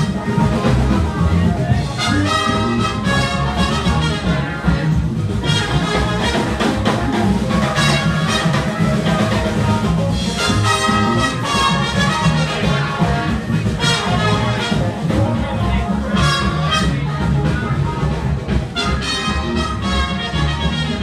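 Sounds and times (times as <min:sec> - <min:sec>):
live band with horns: 0:00.0 - 0:21.0.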